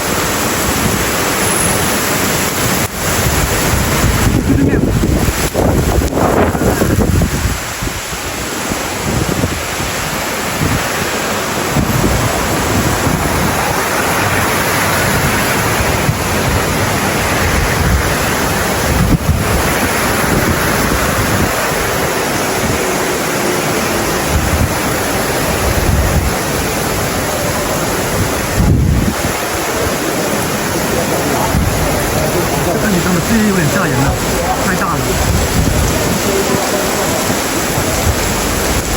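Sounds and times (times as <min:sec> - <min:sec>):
heavy rain pouring: 0:00.0 - 0:38.9
wind buffeting microphone: 0:00.0 - 0:38.9.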